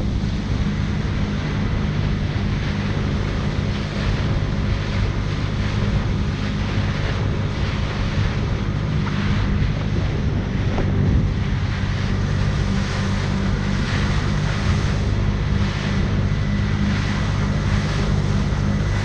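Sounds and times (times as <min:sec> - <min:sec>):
jet ski engine humming: 0:00.0 - 0:19.0
rushing water: 0:00.0 - 0:19.0
wind on microphone: 0:00.0 - 0:19.0.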